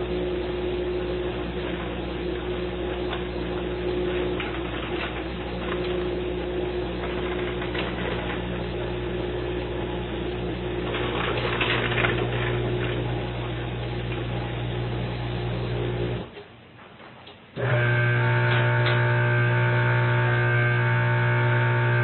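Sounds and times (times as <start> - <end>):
dishwasher motor hum: 0.0 - 22.0.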